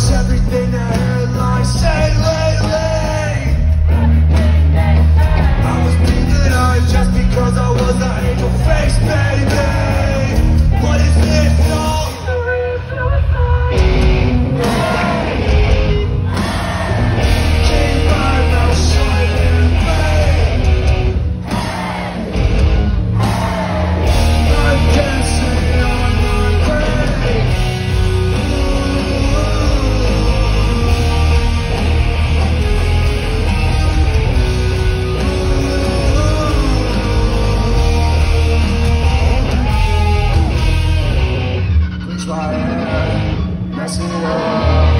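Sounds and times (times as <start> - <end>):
person yelling singing: 0.0 - 31.9, 35.1 - 40.8
live rock band playing: 0.0 - 44.9.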